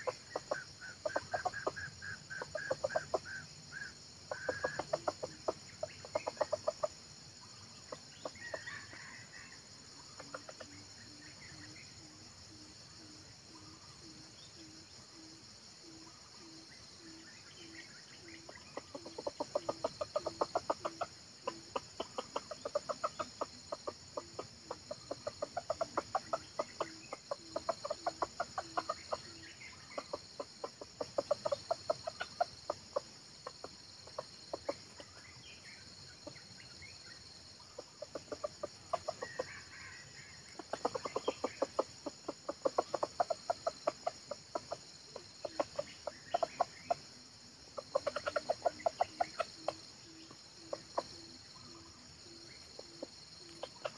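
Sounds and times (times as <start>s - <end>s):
junglefowl clucking: 0.0s - 11.8s, 15.8s - 36.7s, 37.6s - 53.9s.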